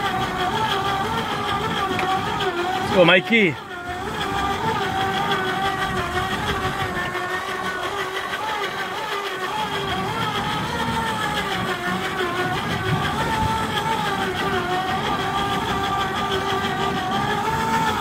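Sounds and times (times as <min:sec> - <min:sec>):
motor running with wavering whine: 0:00.0 - 0:18.0.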